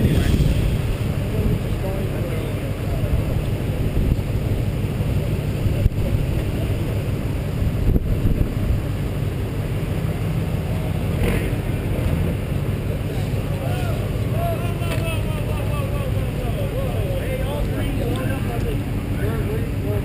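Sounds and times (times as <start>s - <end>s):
pickup truck engine rumbling: 0.0s - 20.0s.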